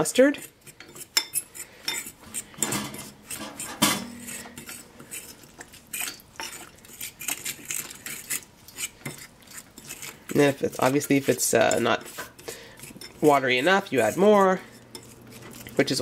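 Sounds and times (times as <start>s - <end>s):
whisk scraping ceramic bowl: 0.0s - 16.0s.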